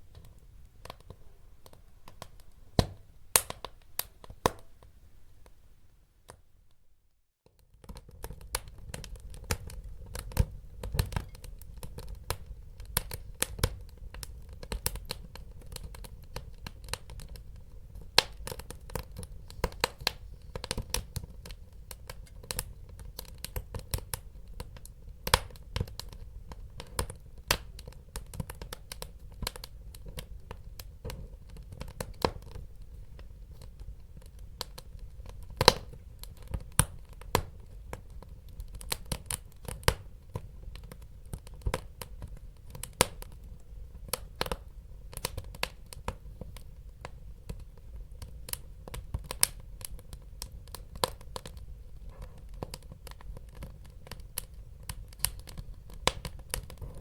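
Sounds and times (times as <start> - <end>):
wood fire crackling and popping: 0.1 - 4.8, 7.5 - 57.0.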